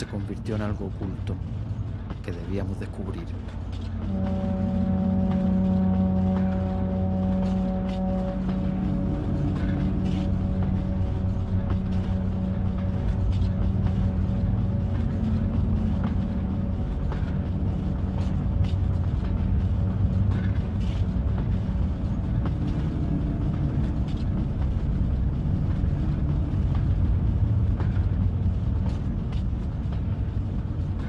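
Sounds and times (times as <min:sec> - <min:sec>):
diesel locomotive engine rumbling: 0:00.0 - 0:31.0.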